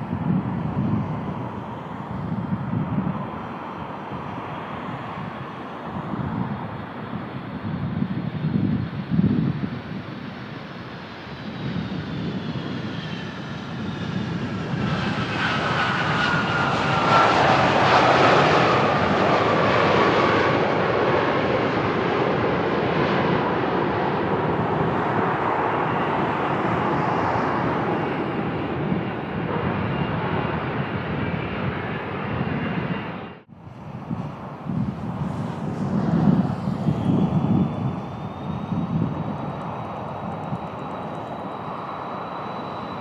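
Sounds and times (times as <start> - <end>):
airliner jet engines whining: 0.0 - 43.0
wind rumble on microphone: 0.0 - 43.0.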